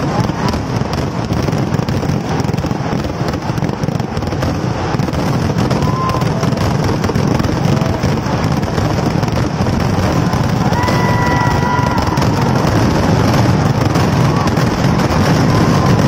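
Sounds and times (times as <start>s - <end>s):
fireworks crackling barrage: 0.0s - 16.0s.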